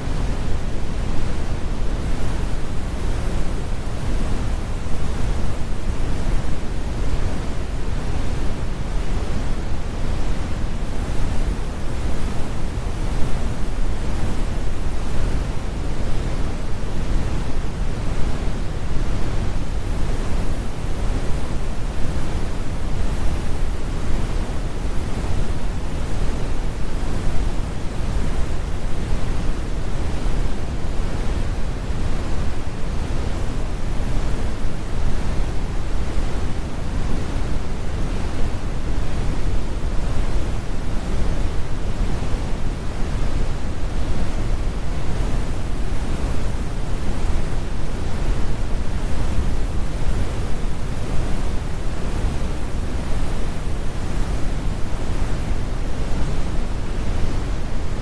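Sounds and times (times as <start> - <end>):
brown noise rumbling hiss: 0.0 - 58.0.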